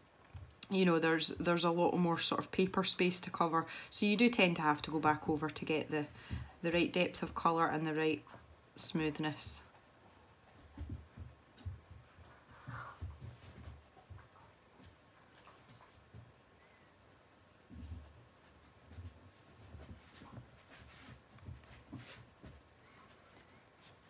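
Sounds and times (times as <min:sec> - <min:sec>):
coloured pencil scratching on paper: 0:00.0 - 0:23.2.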